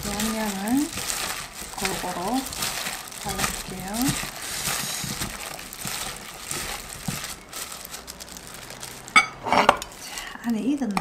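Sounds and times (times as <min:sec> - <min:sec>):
coated meat squishing: 0:00.0 - 0:09.2
plastic glove crinkling: 0:00.0 - 0:11.0.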